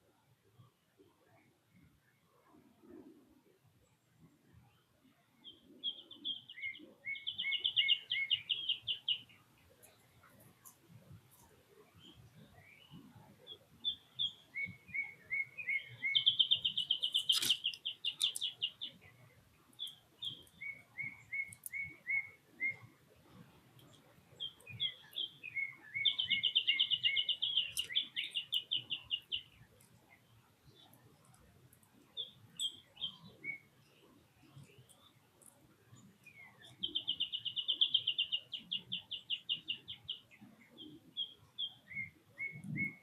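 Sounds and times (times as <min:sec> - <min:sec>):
songbird singing with trills: 0:04.7 - 0:10.8, 0:11.8 - 0:43.0.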